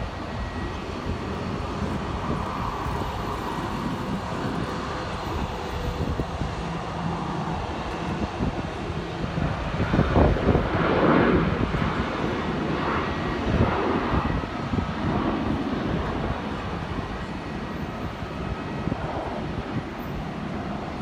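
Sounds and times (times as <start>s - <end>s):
jet engines rushing: 0.0s - 21.0s
wind buffeting microphone: 0.0s - 21.0s.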